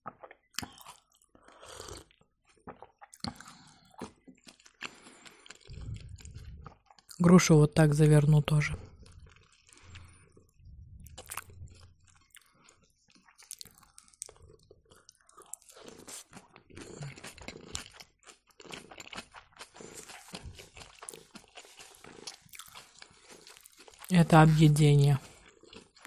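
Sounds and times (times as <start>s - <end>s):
chewing and crunching: 0.0s - 26.0s.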